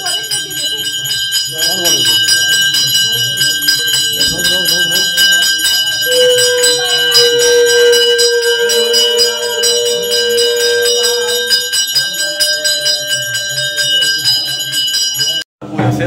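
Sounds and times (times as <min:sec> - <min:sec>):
long steady note: 0:00.0 - 0:15.4
brass hand bell ringing: 0:00.0 - 0:15.5.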